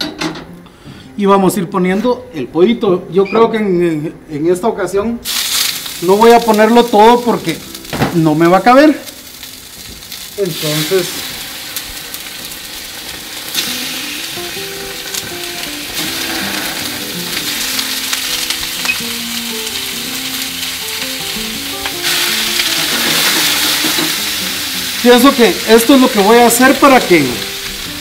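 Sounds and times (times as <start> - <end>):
chicken sizzling in frying pan: 5.2 - 28.0.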